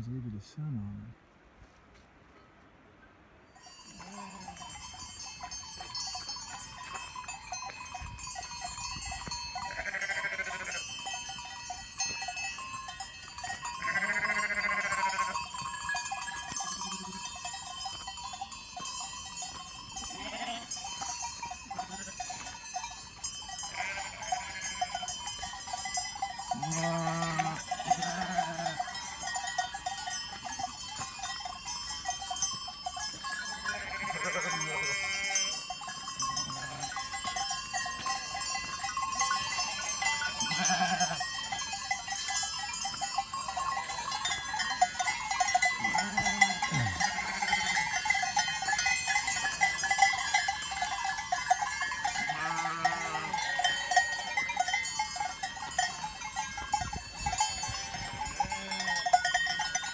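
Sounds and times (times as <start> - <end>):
livestock bells clanking: 3.5 - 59.9.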